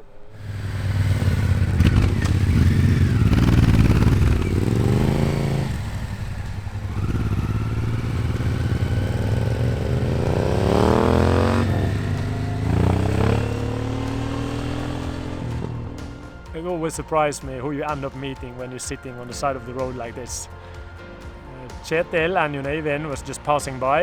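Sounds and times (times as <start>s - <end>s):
motorcycle engines accelerating: 0.3s - 24.0s.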